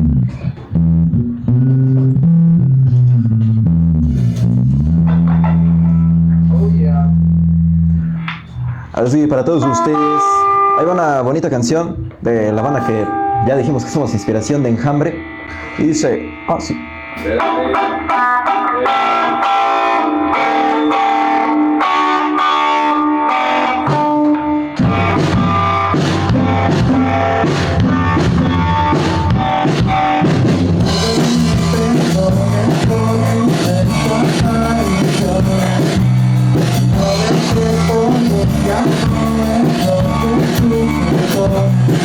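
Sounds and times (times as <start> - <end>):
rock band playing live: 0.0 - 6.8, 7.5 - 11.0, 12.0 - 42.0
guitar picking melody: 0.4 - 8.8, 9.5 - 11.1, 11.9 - 42.0.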